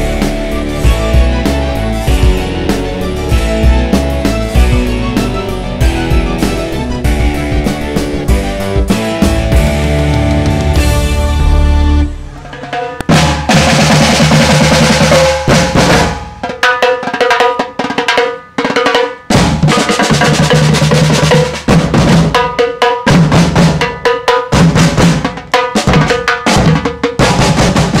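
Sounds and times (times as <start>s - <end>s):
snare and bass drums playing: 0.0s - 28.0s.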